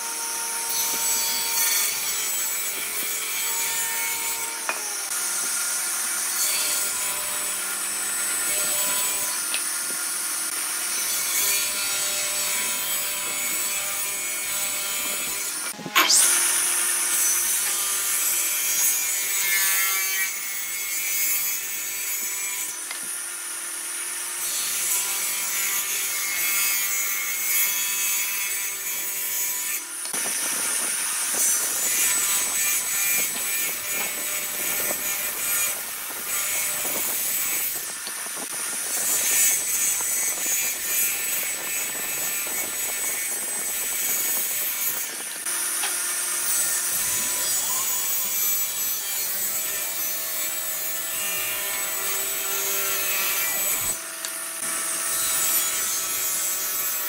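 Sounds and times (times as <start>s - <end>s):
table saw cutting wood: 0.0s - 57.0s.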